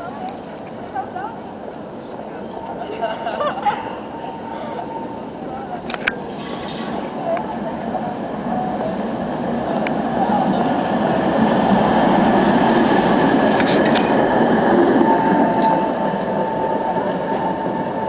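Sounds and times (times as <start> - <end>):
tram wheels rumbling on rails: 0.0 - 18.0
steady high whine: 1.4 - 18.0.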